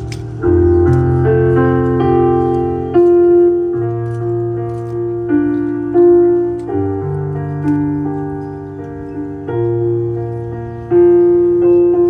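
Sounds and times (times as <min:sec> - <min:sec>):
slow piano-like chords: 0:00.0 - 0:12.0.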